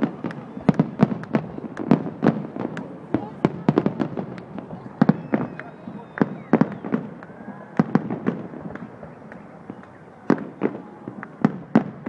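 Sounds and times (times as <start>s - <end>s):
firework bangs: 0.0s - 12.0s
firework crackling: 0.0s - 12.0s.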